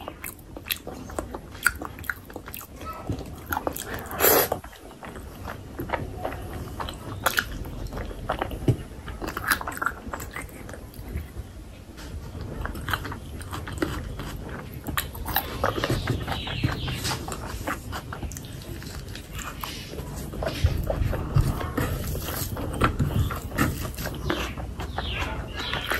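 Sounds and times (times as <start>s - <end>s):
person chewing food: 0.0s - 25.9s.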